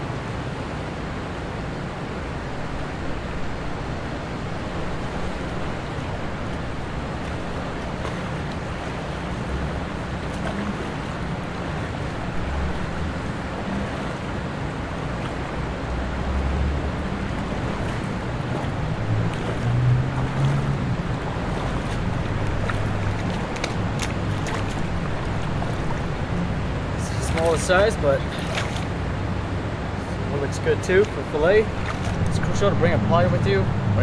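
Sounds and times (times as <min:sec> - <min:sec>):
wind buffeting microphone: 0:01.8 - 0:30.4.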